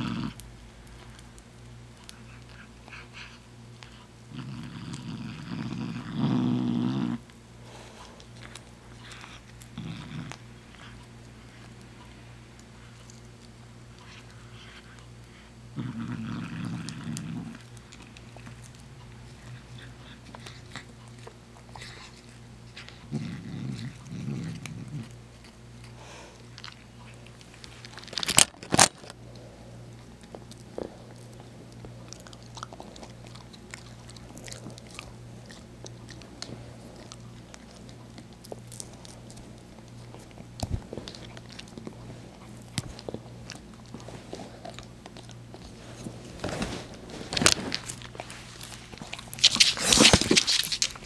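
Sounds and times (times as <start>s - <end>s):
cat chewing a treat: 0.0s - 6.0s, 7.7s - 46.0s.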